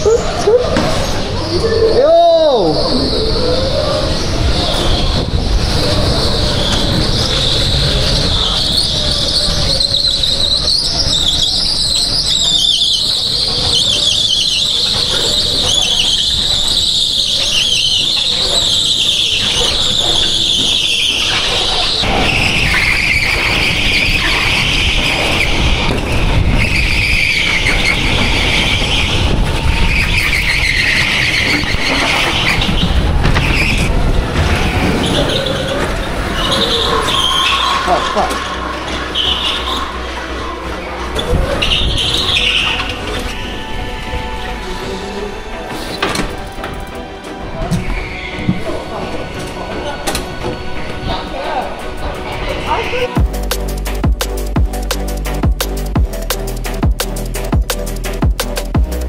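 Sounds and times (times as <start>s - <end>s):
go-kart high squeal: 0.0s - 45.0s, 47.6s - 50.2s
road rumble: 0.0s - 59.0s.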